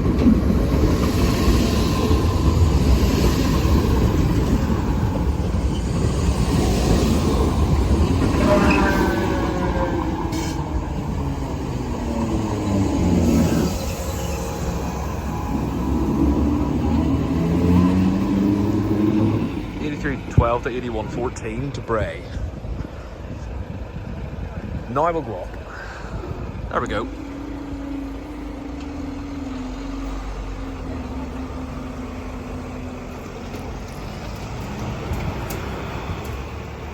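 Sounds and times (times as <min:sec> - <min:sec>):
electric train motor hum: 0:00.0 - 0:21.3, 0:26.1 - 0:36.9
train wheels rumbling on track: 0:00.0 - 0:36.9.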